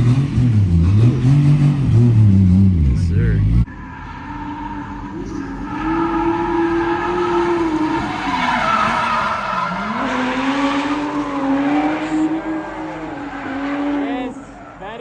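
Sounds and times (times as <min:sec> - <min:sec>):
car engine at high revs: 0:00.0 - 0:03.8, 0:04.6 - 0:15.0.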